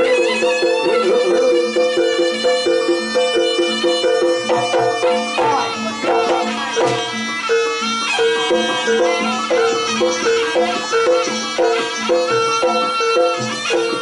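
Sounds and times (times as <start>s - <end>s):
reedy melody instrument: 0.0s - 14.0s
tuned percussion: 0.0s - 14.0s.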